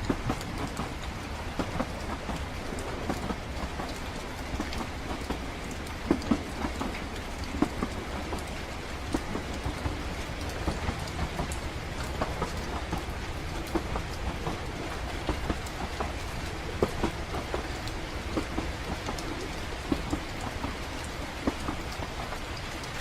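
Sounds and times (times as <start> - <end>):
train rumbling: 0.0 - 23.0
light ticks and taps: 3.1 - 23.0.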